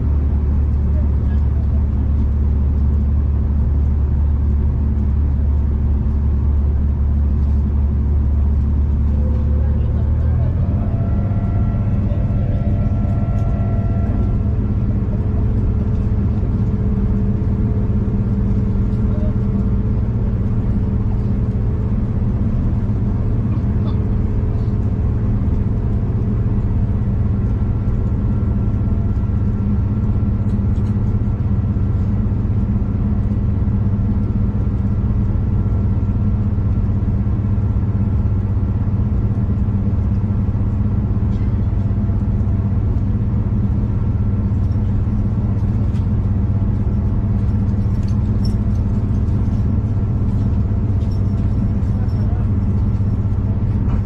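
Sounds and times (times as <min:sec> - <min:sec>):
train rumble from inside carriage: 0:00.0 - 0:54.0.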